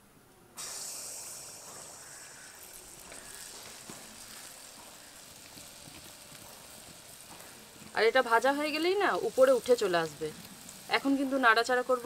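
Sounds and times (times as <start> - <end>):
batter sizzling in hot oil: 0.6 - 12.0.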